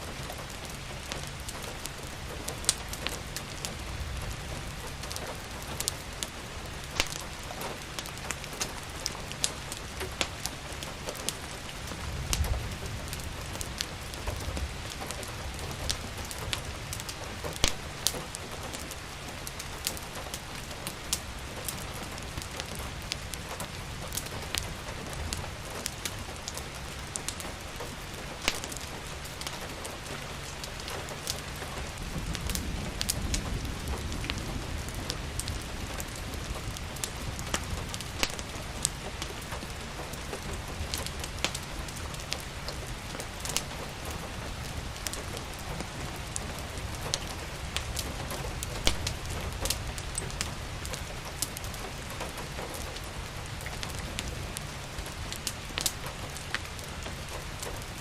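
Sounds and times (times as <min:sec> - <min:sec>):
rain hiss: 0:00.0 - 0:58.0
wood fire crackling: 0:00.0 - 0:58.0.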